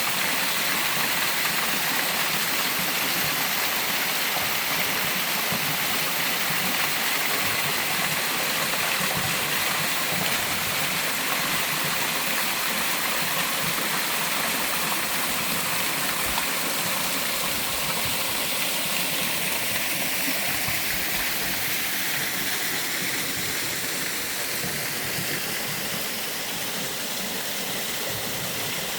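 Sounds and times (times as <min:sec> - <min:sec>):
water rushing over rocks: 0:00.0 - 0:28.9.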